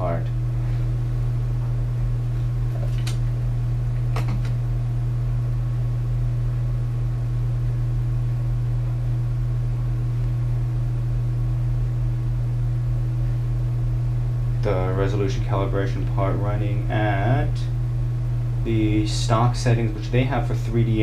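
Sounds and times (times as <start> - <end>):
cooling fan hum: 0.0 - 21.0.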